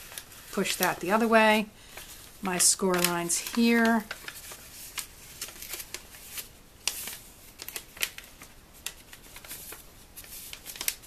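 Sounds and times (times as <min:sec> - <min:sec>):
paper bag rustling: 0:00.0 - 0:11.0.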